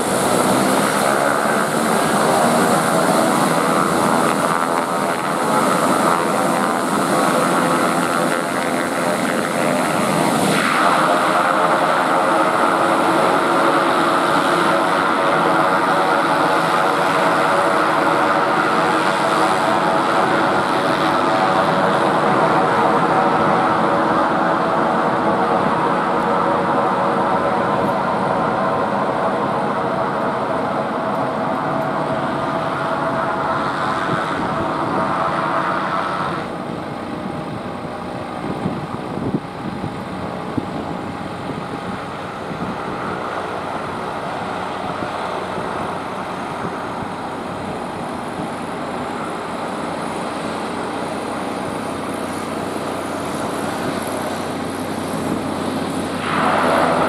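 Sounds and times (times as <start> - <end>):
turboprop engines running: 0.0 - 57.0.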